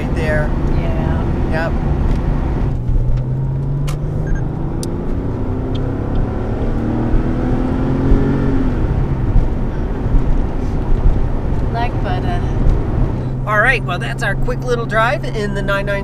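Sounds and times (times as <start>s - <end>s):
car engine pulling while driving: 0.0s - 16.0s.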